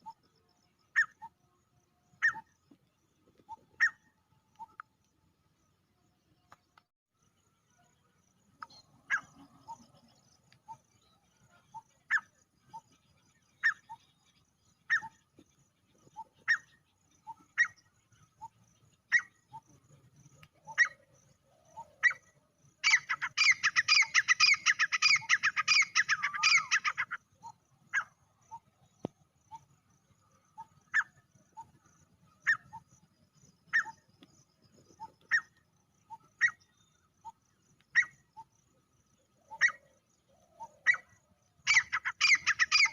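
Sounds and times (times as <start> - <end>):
francolin calling: 0.0 - 1.4, 2.1 - 2.6, 3.4 - 4.9, 8.6 - 12.9, 13.5 - 15.3, 16.0 - 28.8, 30.5 - 42.9.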